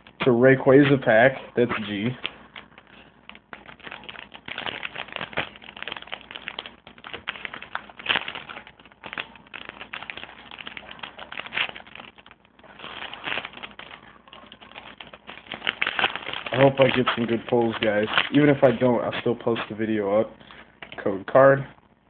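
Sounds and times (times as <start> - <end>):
foil wrapper crinkling: 0.0 - 21.1.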